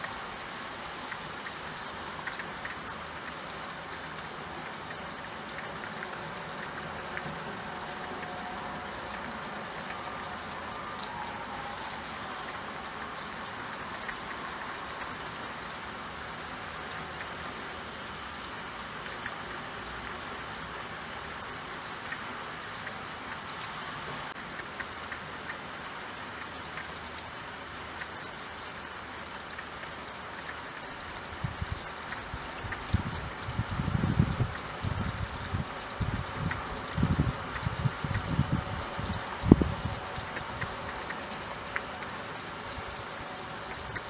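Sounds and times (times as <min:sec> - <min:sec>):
raindrops ticking: 0:00.0 - 0:44.0
steady rainfall: 0:00.0 - 0:44.0.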